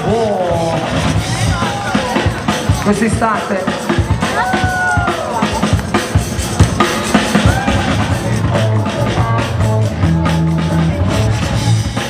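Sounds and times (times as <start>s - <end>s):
drum beat: 0.0s - 12.0s
held bassline: 0.0s - 12.0s.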